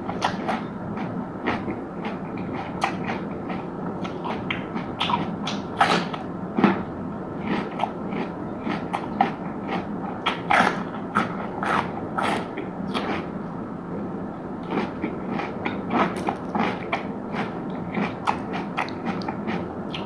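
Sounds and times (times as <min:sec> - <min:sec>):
crunchy chewing: 0:00.1 - 0:13.3, 0:14.6 - 0:20.0.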